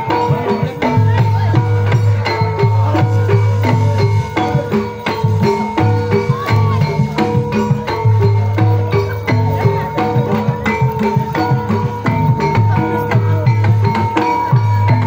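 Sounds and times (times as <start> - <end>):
drums in fast steady pattern: 0.0 - 15.0
metallophone notes: 0.0 - 15.0.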